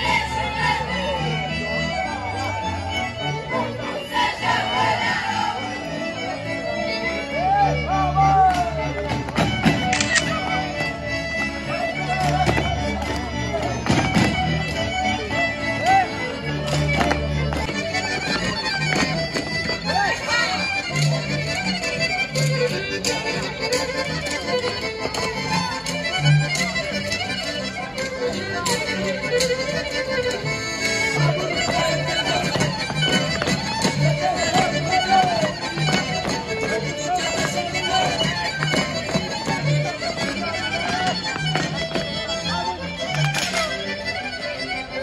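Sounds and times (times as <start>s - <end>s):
lively folk dance music: 0.0s - 45.0s.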